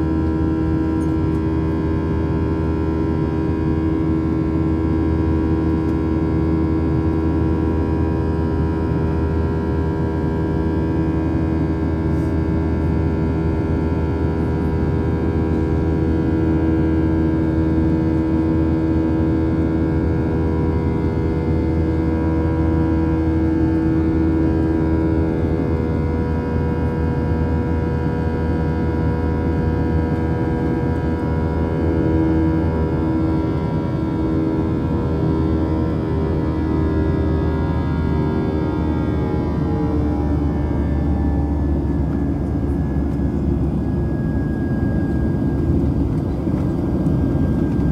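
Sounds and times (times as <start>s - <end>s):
jet engine drone in cabin: 0.0s - 47.9s.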